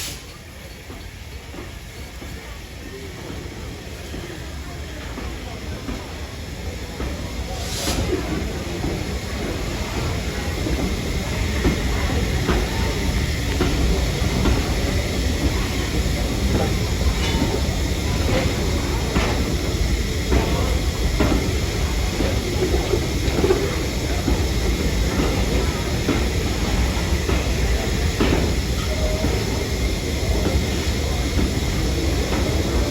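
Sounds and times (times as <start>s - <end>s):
train rumbling on track: 0.0s - 32.9s.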